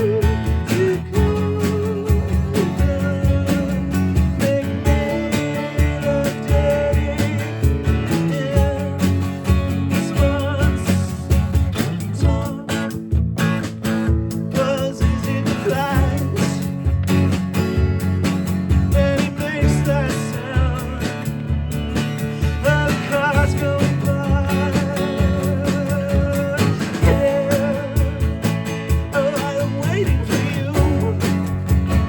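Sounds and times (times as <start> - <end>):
person singing: 0.0 - 12.9, 14.5 - 16.8, 18.9 - 32.0
guitar: 0.0 - 32.0
small band rehearsing: 0.0 - 32.0.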